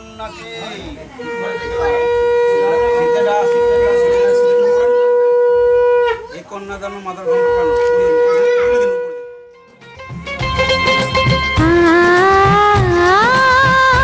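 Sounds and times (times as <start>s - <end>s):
conch shell blown: 0.7s - 9.8s, 10.9s - 14.0s.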